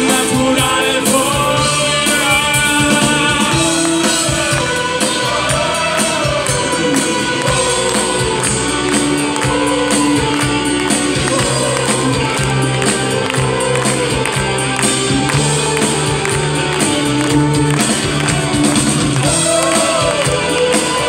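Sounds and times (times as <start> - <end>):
bass guitar: 0.0 - 21.0
keyboards: 0.0 - 21.0
steady drum beat: 0.0 - 21.0.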